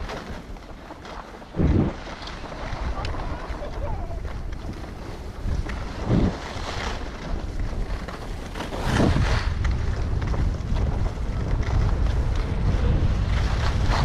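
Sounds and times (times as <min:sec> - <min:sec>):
skis scraping over snow: 0:00.0 - 0:14.0
wind buffeting microphone: 0:00.0 - 0:14.0.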